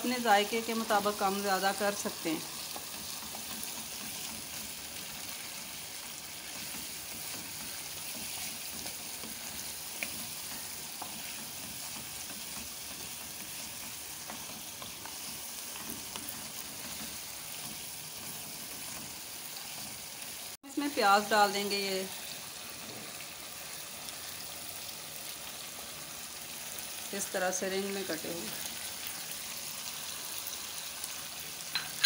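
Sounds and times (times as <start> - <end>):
meat sizzling in hot oil: 0.0 - 32.0.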